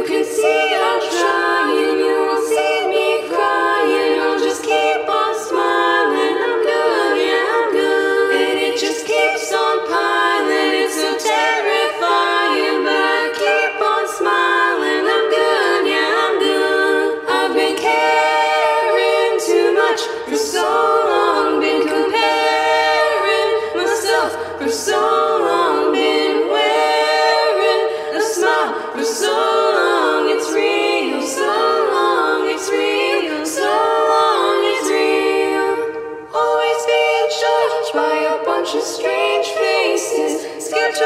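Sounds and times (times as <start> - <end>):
a cappella choir singing: 0.0 - 41.0.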